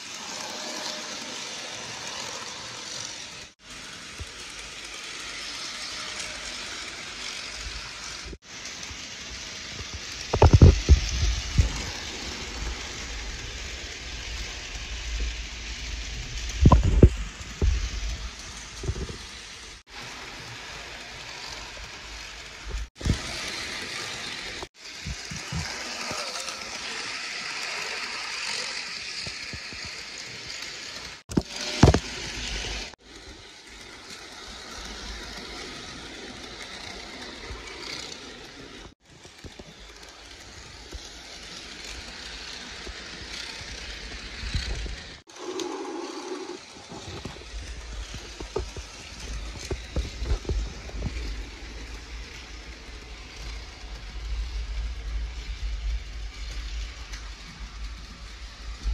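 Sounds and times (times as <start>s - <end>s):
model train motor whirring: 0.0s - 58.9s
wheels clicking over rail joints: 0.0s - 58.9s.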